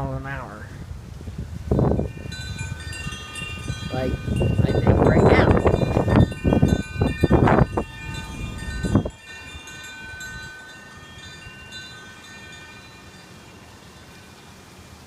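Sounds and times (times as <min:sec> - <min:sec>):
wind buffeting microphone: 0:00.0 - 0:13.0
wind chimes ringing: 0:01.7 - 0:14.6.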